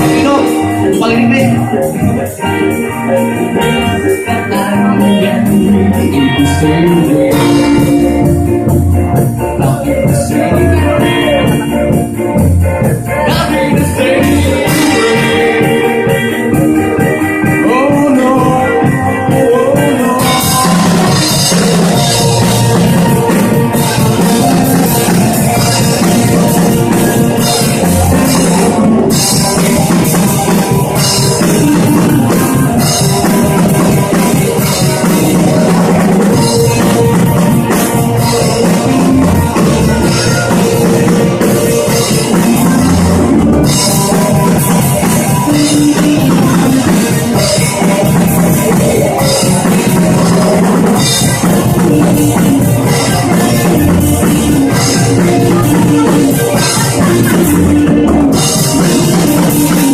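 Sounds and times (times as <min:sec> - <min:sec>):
drum kit: 0:00.0 - 0:59.9
electric guitars: 0:00.0 - 0:59.9
live rock band playing: 0:00.0 - 0:59.9.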